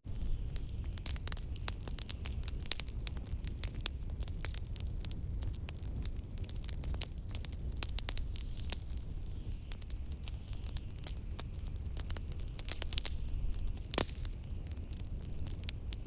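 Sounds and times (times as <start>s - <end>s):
fireplace crackling and snapping: 0.1s - 16.0s.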